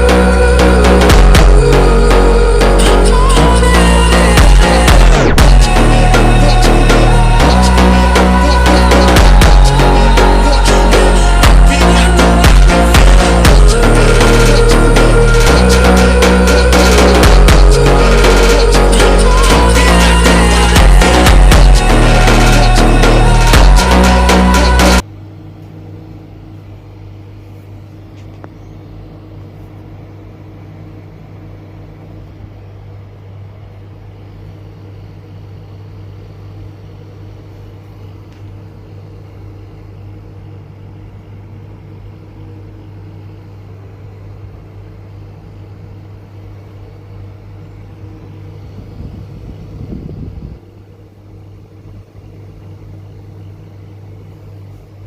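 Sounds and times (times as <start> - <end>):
refrigerator compressor humming: 0.0 - 55.0.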